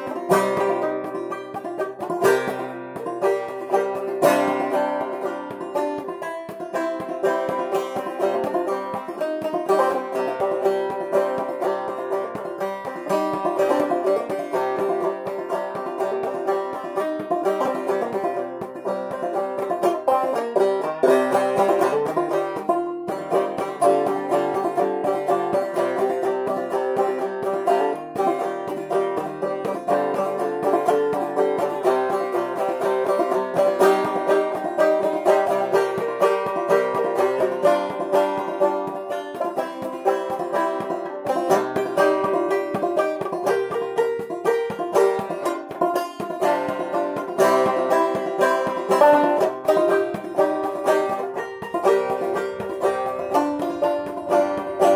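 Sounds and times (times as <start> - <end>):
banjo playing blues: 0.0 - 54.9.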